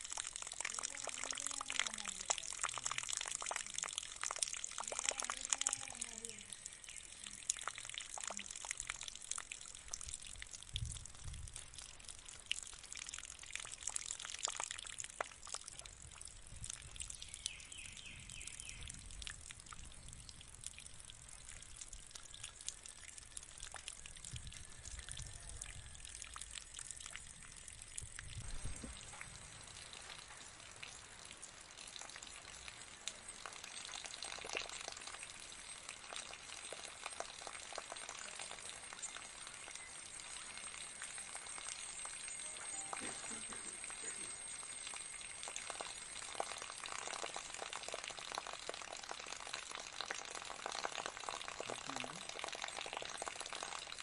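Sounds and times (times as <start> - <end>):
fountain water trickling: 0.0 - 54.0.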